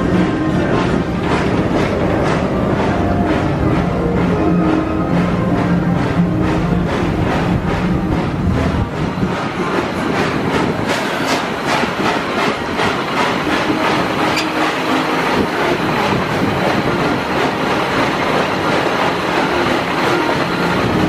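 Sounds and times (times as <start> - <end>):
rhythmic track clicking: 0.0 - 21.0
train cars rumbling on track: 0.0 - 21.0.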